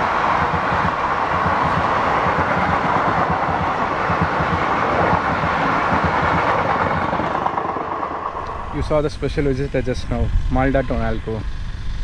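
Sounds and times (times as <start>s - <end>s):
train coaches rumbling on track: 0.0s - 11.7s.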